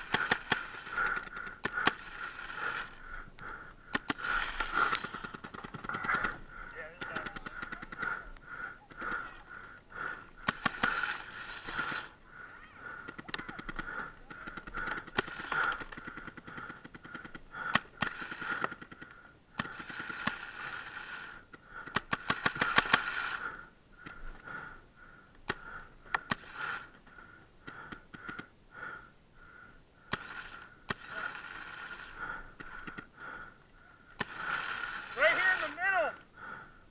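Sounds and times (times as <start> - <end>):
paintball markers firing: 0.0 - 12.2, 12.8 - 24.6, 25.4 - 26.9, 27.6 - 29.0, 30.0 - 33.5, 34.2 - 35.9.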